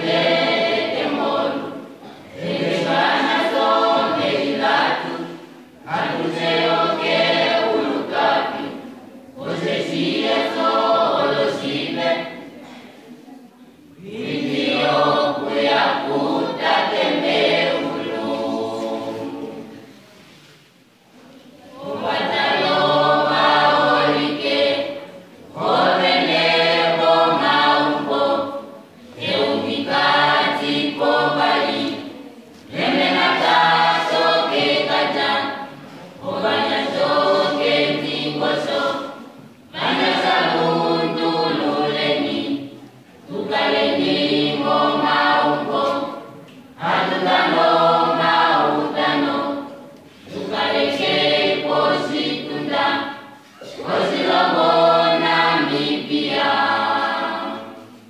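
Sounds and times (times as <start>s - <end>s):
choir singing unaccompanied: 0.0s - 12.8s, 13.9s - 20.4s, 21.6s - 58.0s.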